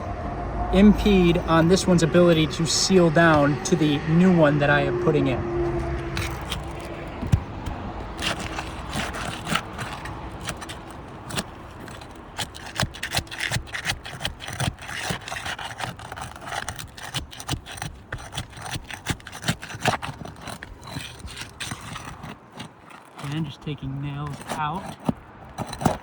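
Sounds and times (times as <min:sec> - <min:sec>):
pry tool scraping roof shingles: 0:02.8 - 0:26.0.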